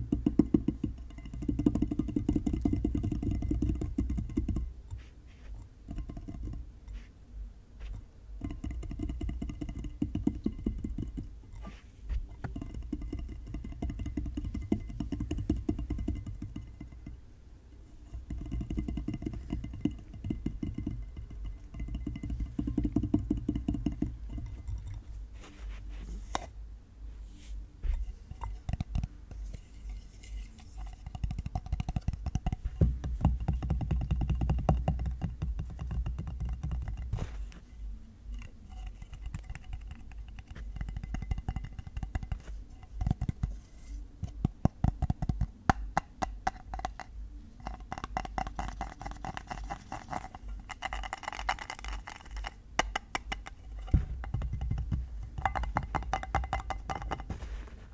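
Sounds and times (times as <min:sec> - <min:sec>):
fingertips tapping on objects: 0:00.0 - 0:57.9.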